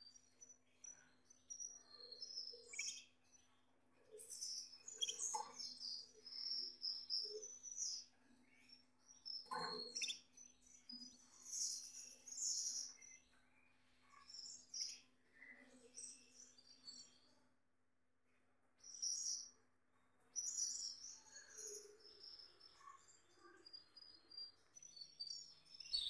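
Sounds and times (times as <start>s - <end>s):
canary singing chirps and trills: 0.0s - 26.0s.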